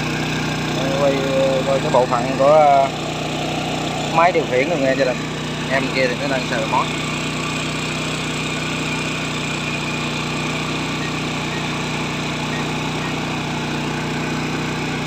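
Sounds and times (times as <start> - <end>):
drone rotors humming: 0.2 - 15.0.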